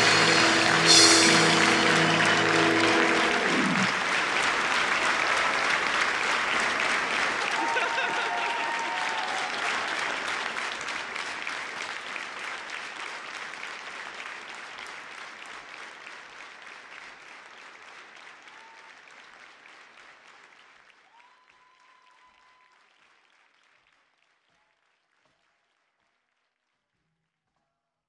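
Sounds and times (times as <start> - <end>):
audience applauding: 0.0 - 25.4.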